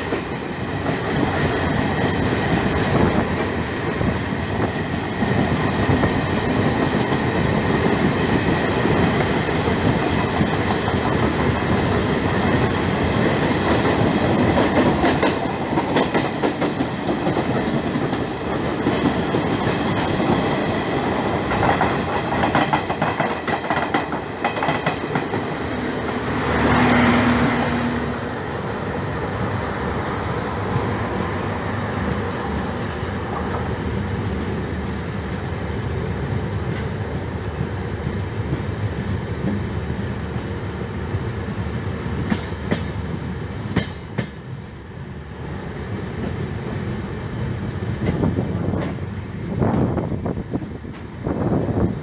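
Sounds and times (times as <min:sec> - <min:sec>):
clickety-clack over rail joints: 0:00.0 - 0:29.9, 0:30.6 - 0:52.0
train wheels rumbling on rails: 0:00.0 - 0:52.0.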